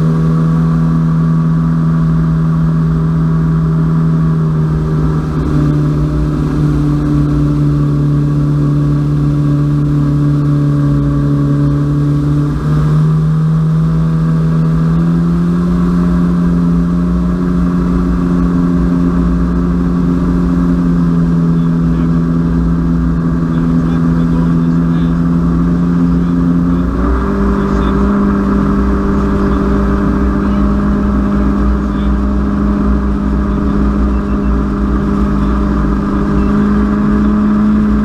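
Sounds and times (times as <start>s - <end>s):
personal watercraft engine: 0.0s - 38.0s
rush of wind and water: 0.0s - 38.0s.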